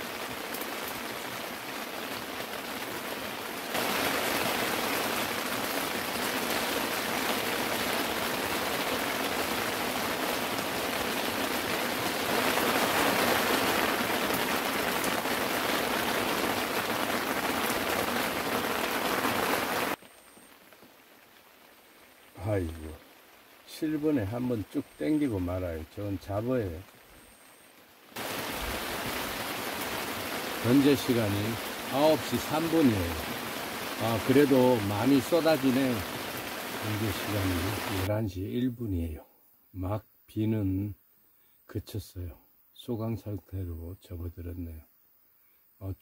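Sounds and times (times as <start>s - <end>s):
steady rain falling: 0.0s - 44.8s.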